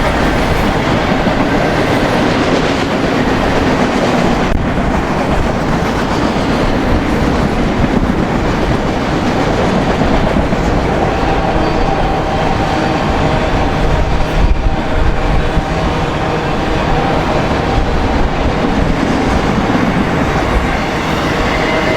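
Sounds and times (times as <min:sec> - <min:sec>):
freight train rumbling past: 0:00.0 - 0:21.9.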